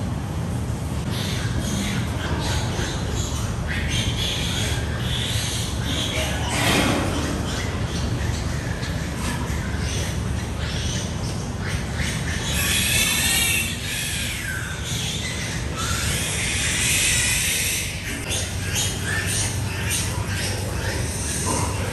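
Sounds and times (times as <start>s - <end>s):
piglets squealing: 1.1s - 21.9s.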